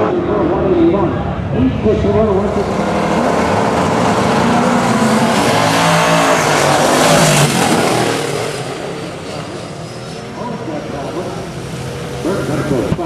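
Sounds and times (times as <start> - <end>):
race car engines at full throttle: 0.0 - 13.0.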